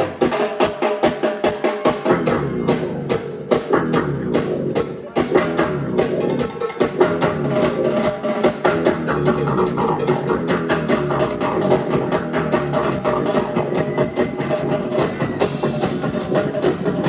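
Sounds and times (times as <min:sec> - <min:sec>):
live band music: 0:00.0 - 0:17.0
rapid drum hits: 0:00.0 - 0:17.0.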